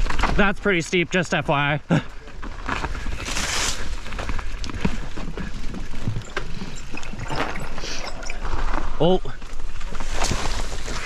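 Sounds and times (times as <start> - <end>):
bike rattling over rough ground: 0.0 - 11.0.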